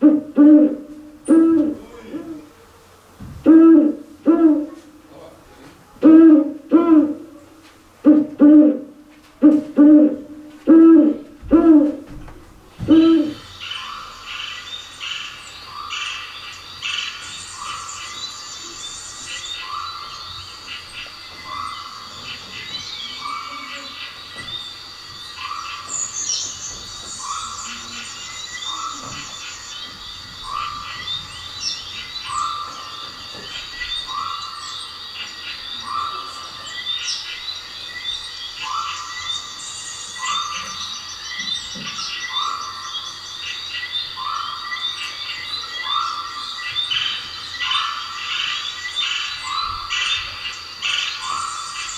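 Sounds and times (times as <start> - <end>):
frogs croaking: 0.0 - 5.4, 6.0 - 51.9
birds chirping: 0.0 - 51.9.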